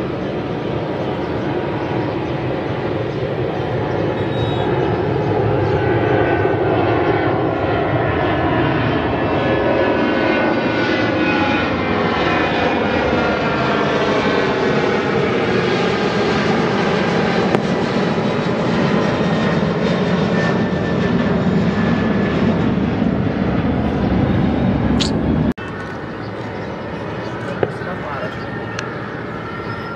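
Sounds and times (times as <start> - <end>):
jet engine roar at takeoff: 0.0 - 29.9.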